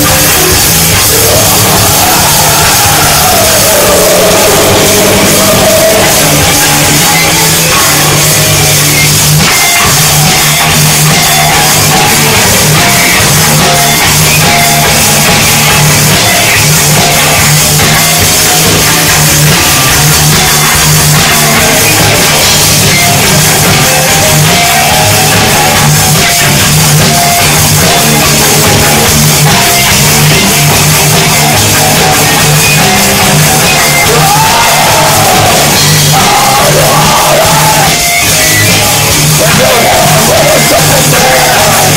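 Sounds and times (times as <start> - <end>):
bass guitar: 0.0 - 41.9
drums: 0.0 - 41.9
electric guitar: 0.0 - 41.9
shouted vocals: 0.0 - 41.9.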